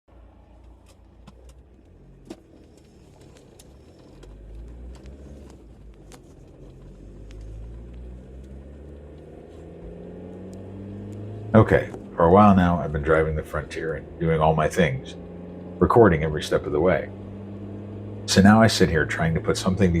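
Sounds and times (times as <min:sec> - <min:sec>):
pickup engine and road rumble: 0:00.0 - 0:20.0.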